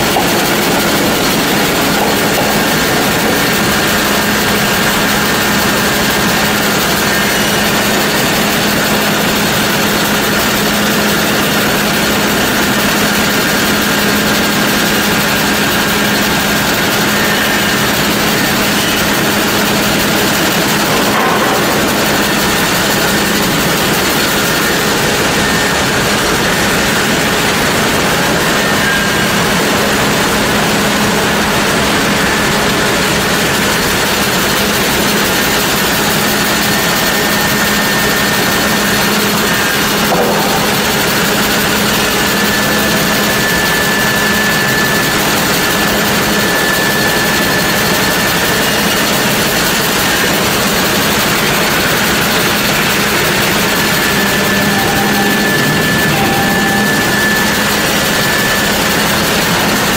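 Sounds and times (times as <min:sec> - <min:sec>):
sawmill machinery din: 0:00.0 - 0:59.9.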